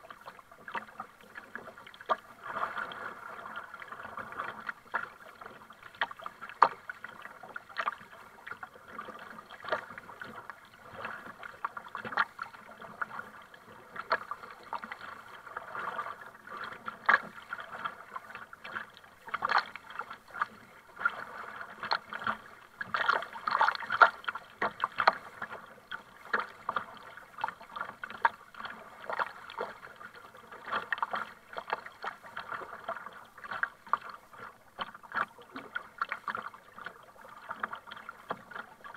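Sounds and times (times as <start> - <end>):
paddle splashing in water: 0.0 - 38.9
water running off paddle blades: 0.0 - 38.9.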